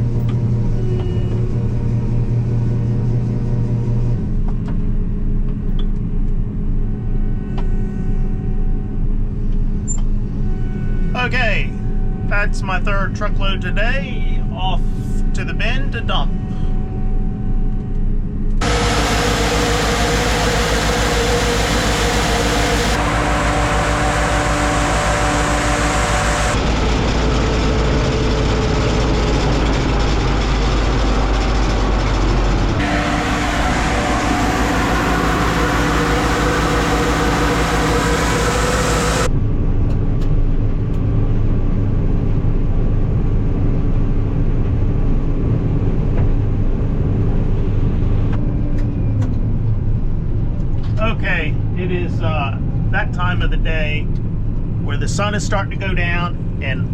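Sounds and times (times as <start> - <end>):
truck engine and road rumble: 0.0 - 56.9.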